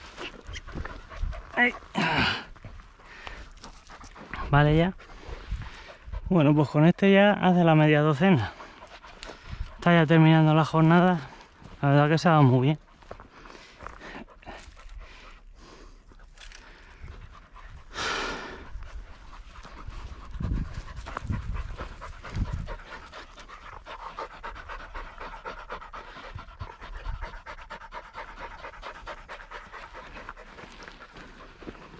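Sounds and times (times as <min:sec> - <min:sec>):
dog panting: 0:00.0 - 0:31.9.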